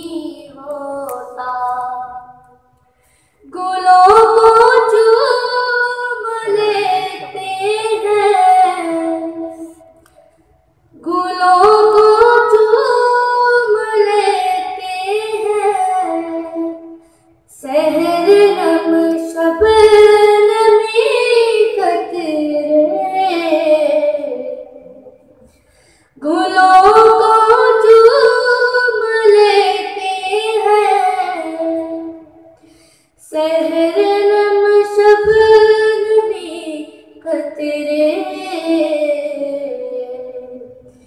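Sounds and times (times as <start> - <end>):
child singing: 0.0 - 2.6, 3.5 - 9.8, 11.0 - 25.3, 26.2 - 32.4, 33.2 - 41.0.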